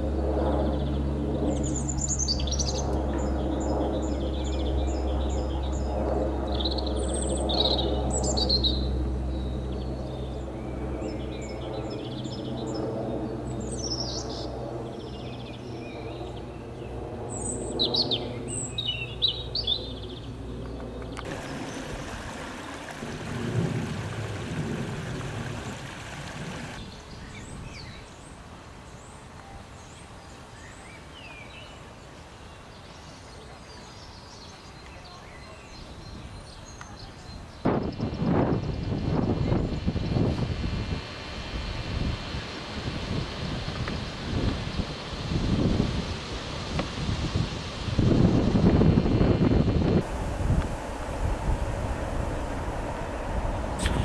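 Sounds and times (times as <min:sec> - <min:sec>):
low mechanical hum: 0:00.0 - 0:27.0, 0:37.7 - 0:54.0.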